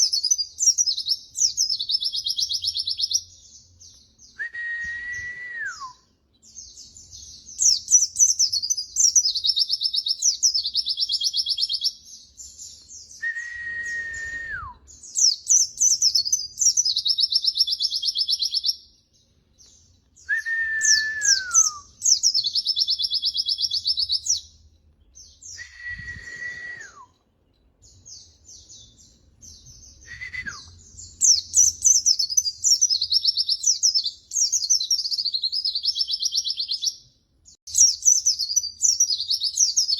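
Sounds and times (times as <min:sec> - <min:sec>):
bird whistling and twittering: 0:00.0 - 0:18.9, 0:19.6 - 0:27.2, 0:27.8 - 0:37.0, 0:37.7 - 0:39.9.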